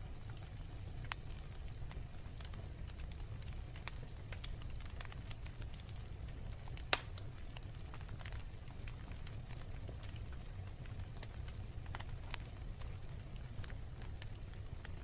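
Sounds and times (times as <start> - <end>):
fire crackling and snapping: 0.0 - 15.0
wood fire flames rumbling: 0.0 - 15.0.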